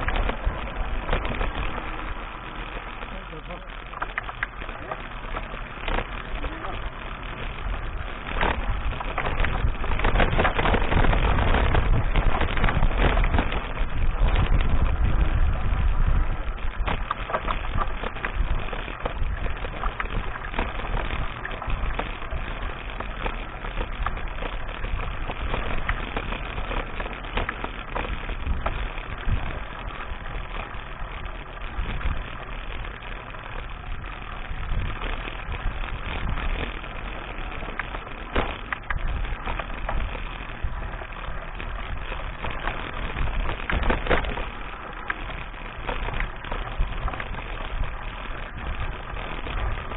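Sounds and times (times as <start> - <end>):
bike rattling: 0.0 - 49.9
bike tyre noise on dirt: 0.0 - 49.9
wind rumbling on microphone: 0.0 - 49.9.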